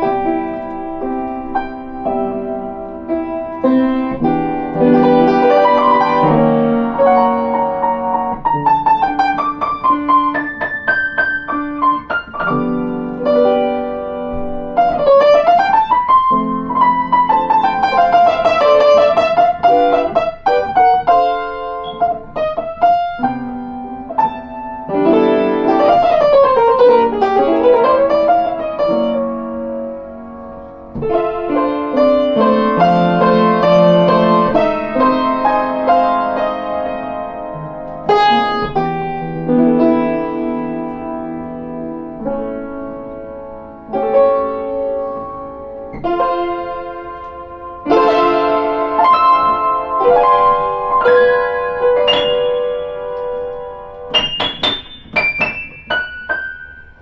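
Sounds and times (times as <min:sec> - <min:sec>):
piano-like keyboard notes and chords: 0:00.0 - 0:57.0.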